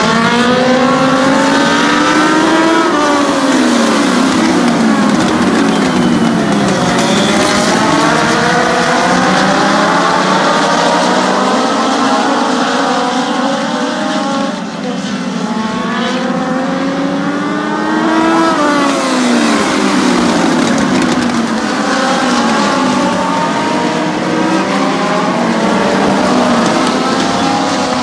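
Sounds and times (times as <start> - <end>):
race car engines revving: 0.0 - 28.0
race car passing close: 0.0 - 28.0.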